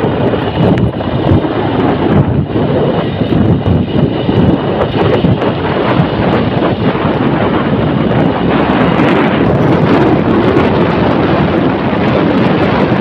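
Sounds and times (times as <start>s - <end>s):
vehicle running: 0.0s - 13.0s
wind buffeting microphone: 0.0s - 13.0s.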